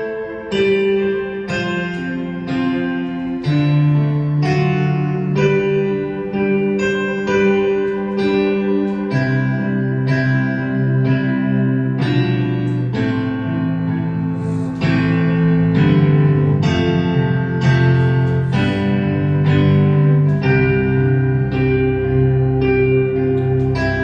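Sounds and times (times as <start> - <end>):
guitar chords ringing: 0.0 - 24.0.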